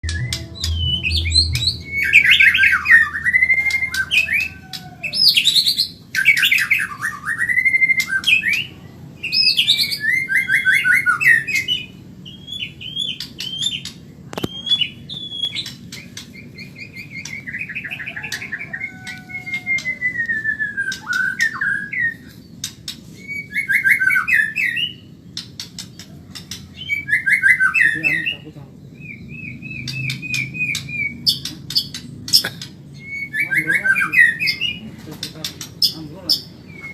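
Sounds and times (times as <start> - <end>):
bird singing trills and whistles: 0.0 - 36.9.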